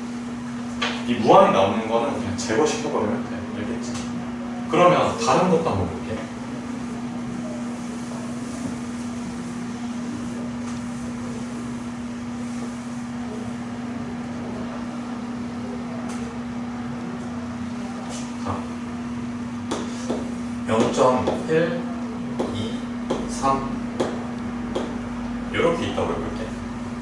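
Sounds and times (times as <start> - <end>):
room noise: 0.0 - 27.0
steady low hum: 0.0 - 27.0.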